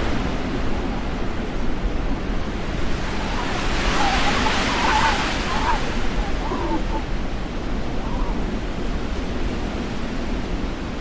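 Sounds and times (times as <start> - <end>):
storm wind buffeting microphone: 0.0 - 11.0.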